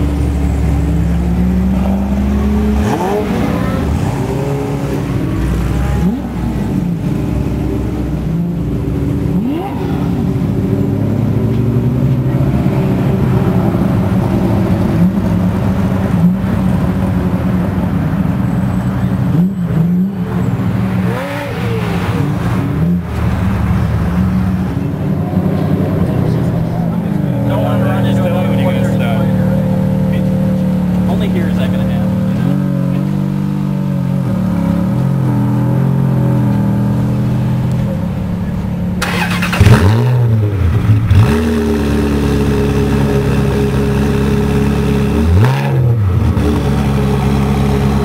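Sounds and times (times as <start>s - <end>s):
sports car engines revving: 0.0s - 48.0s.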